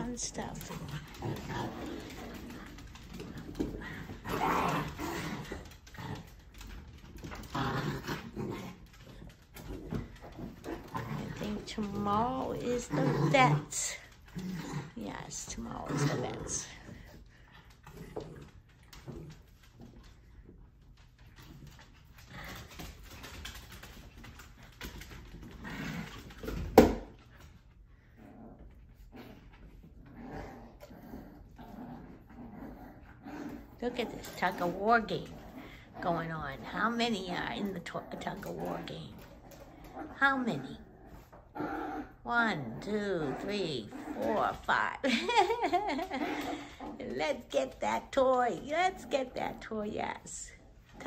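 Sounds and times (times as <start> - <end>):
puppies barking and growling: 0.0 - 51.0.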